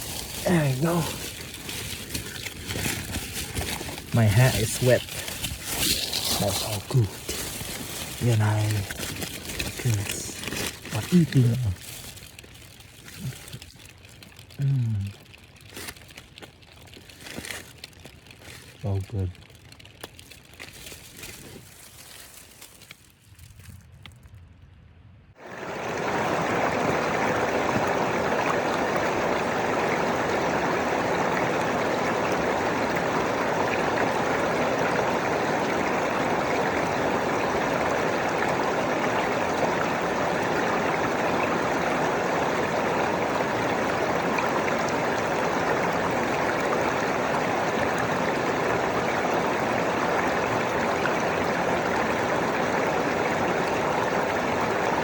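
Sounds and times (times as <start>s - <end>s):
water rushing: 0.0s - 14.6s, 25.4s - 55.0s.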